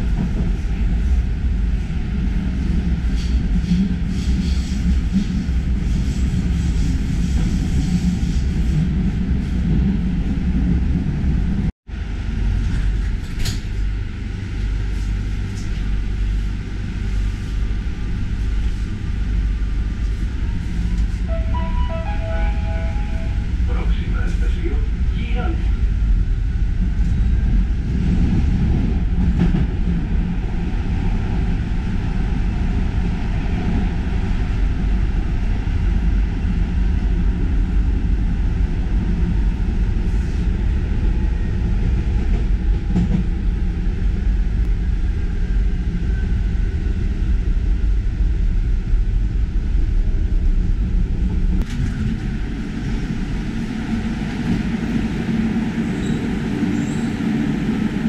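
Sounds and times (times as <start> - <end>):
metro train rumbling in tunnel: 0.0 - 58.0.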